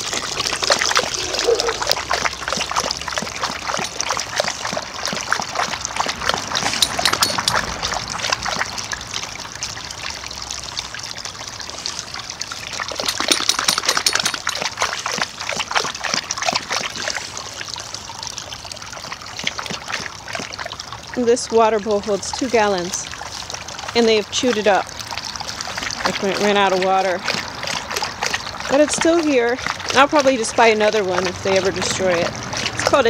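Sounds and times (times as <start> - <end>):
dogs lapping water: 0.0 - 33.0
hose water splashing into bowl: 0.0 - 33.0.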